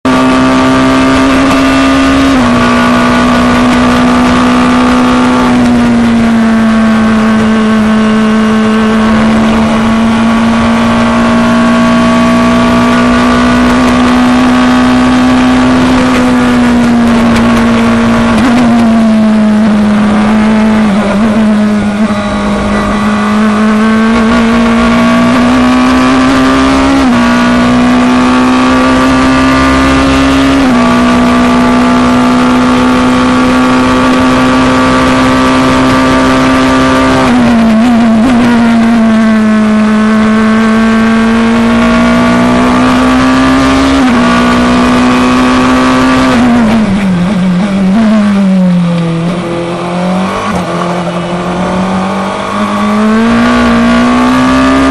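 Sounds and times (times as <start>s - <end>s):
racing car engine with gear changes: 0.0s - 54.9s.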